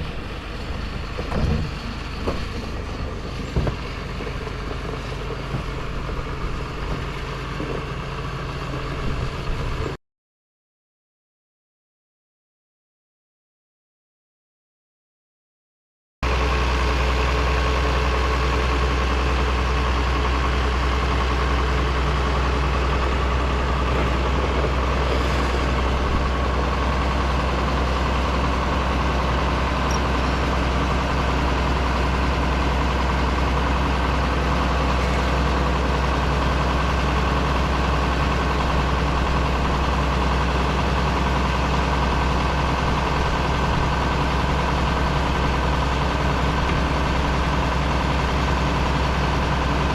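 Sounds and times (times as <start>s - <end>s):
truck engine idling: 0.0s - 10.0s, 16.3s - 49.9s.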